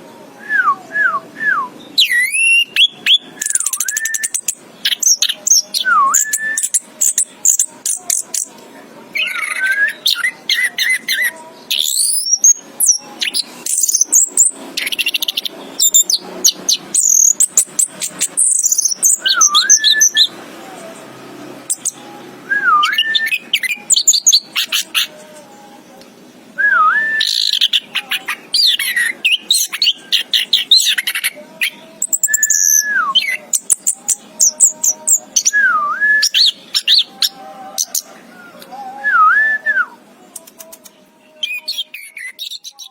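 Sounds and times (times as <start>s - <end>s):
thrush singing: 0.0s - 42.9s.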